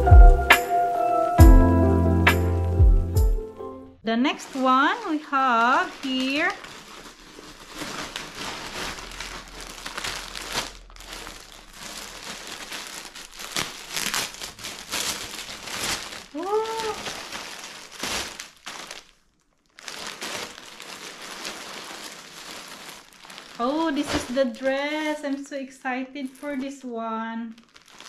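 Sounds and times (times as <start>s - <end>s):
plastic bag crinkling: 4.2s - 28.0s.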